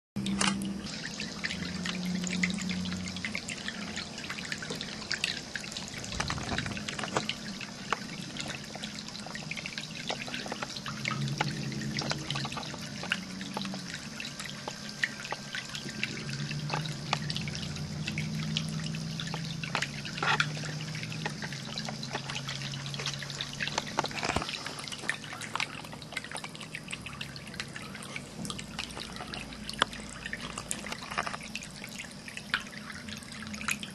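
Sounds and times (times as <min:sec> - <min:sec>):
low wavering hum: 0:00.2 - 0:33.9
water dripping: 0:00.2 - 0:33.9
water trickling and splashing: 0:00.2 - 0:33.9.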